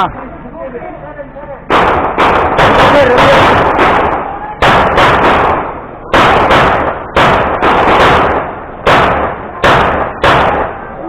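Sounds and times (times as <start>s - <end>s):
gunshots: 1.7s - 10.9s.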